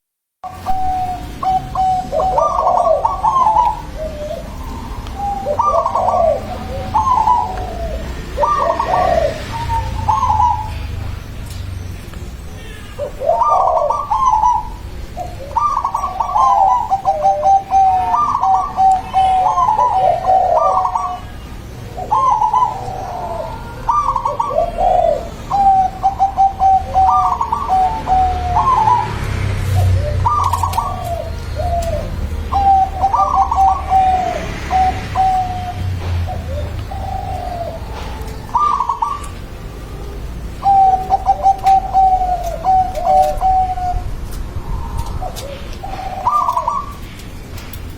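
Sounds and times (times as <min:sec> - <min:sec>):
dove cooing: 0:00.4 - 0:11.1, 0:12.6 - 0:47.7.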